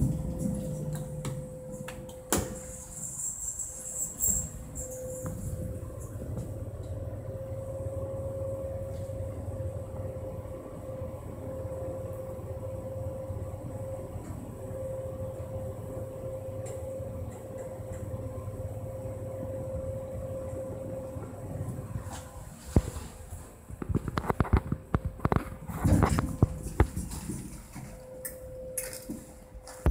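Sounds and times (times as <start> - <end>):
elevator travel rumble: 0.0 - 29.9
mid-pitched hum: 0.0 - 29.9.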